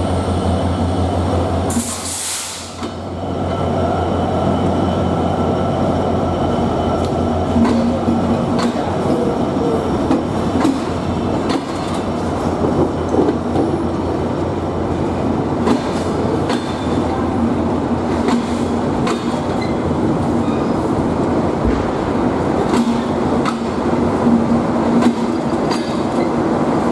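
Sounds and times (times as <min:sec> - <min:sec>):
train wheels clattering on track: 0:01.6 - 0:03.1, 0:06.9 - 0:26.9.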